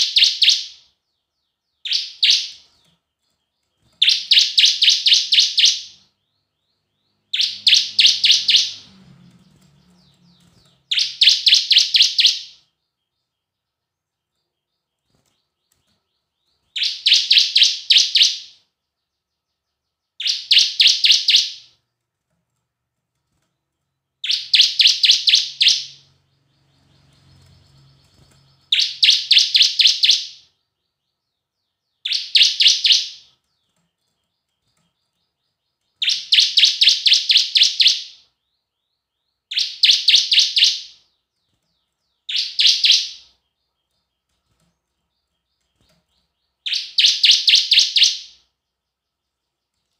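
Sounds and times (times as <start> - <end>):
bird singing high repeated notes: 0.0 - 2.8, 3.6 - 13.0, 14.7 - 21.8, 24.2 - 33.8, 35.1 - 44.0, 45.4 - 49.2.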